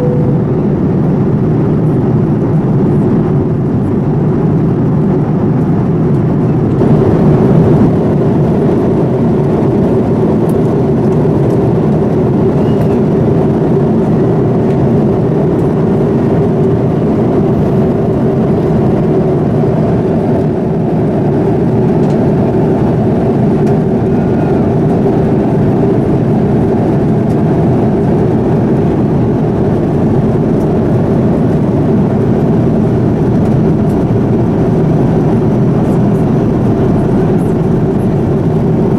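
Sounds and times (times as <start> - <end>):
airliner cabin engine and airflow rush: 0.0 - 38.9.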